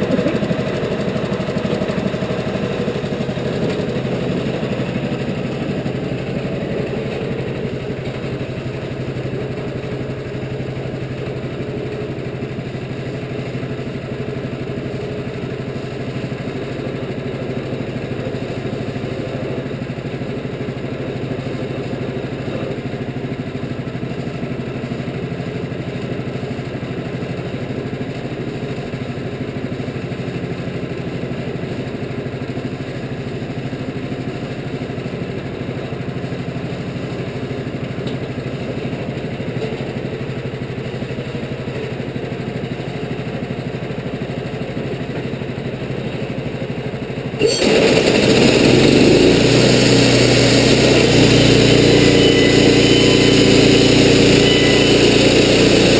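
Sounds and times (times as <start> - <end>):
sawmill gas engine running: 0.0 - 55.9.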